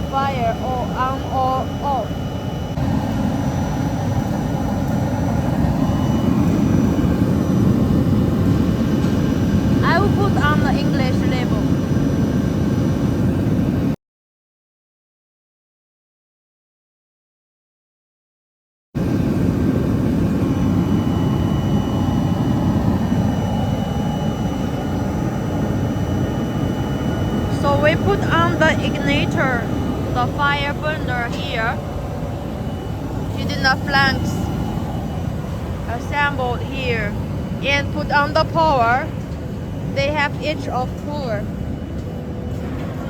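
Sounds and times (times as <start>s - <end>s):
faint high whine: 0.0s - 11.6s, 19.0s - 43.0s
burner flame roaring: 0.0s - 13.8s, 19.0s - 43.0s
fan blower running: 0.0s - 13.9s, 19.0s - 43.0s.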